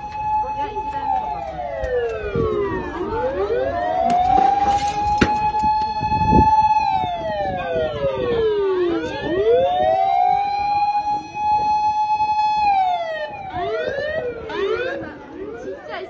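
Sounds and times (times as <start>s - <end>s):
second siren rising sweeps: 0.0s - 15.8s
fire engine siren wailing: 0.0s - 16.0s.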